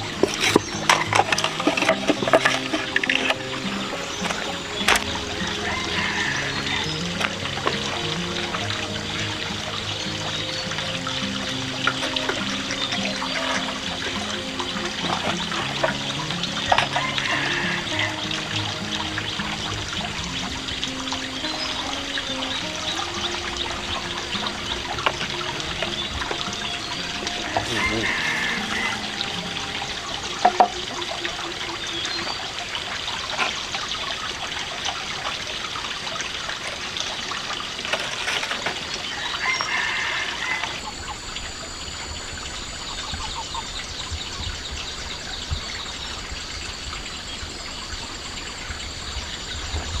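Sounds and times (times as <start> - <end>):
water trickling: 0.0 - 50.0.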